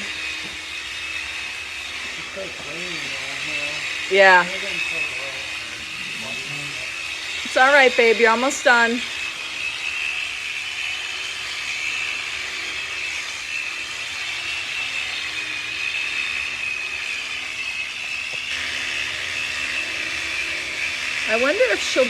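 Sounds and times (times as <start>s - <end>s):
electric sheep shears whining: 0.0s - 22.0s.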